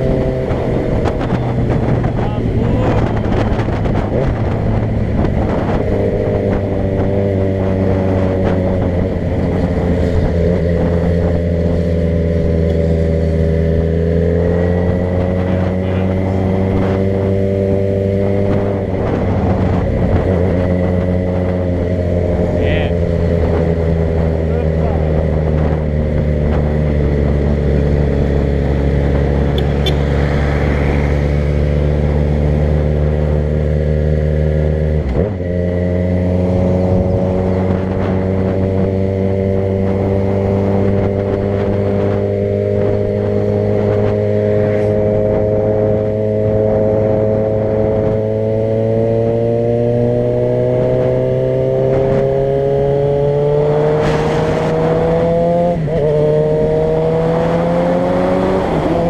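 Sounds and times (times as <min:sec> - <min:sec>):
vehicle engine while driving: 0:00.0 - 0:59.0.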